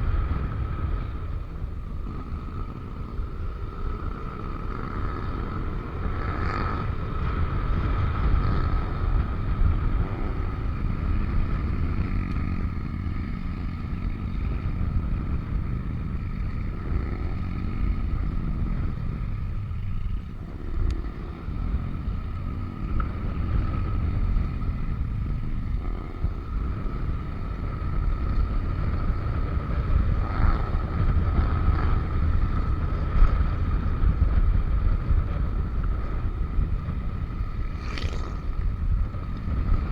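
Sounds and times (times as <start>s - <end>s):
scooter riding: 0.0s - 39.9s
wind rumble on microphone: 0.0s - 39.9s.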